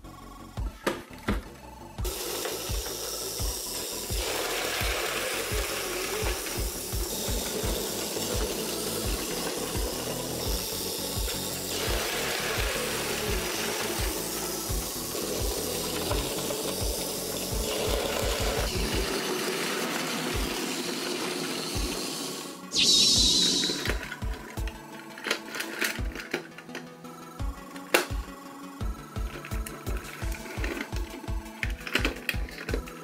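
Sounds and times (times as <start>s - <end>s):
toy train motor whirring: 2.0s - 28.1s, 28.8s - 33.0s.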